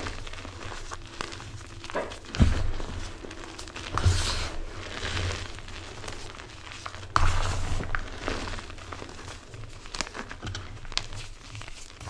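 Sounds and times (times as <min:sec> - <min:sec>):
chalk blocks crunching: 0:00.0 - 0:12.0.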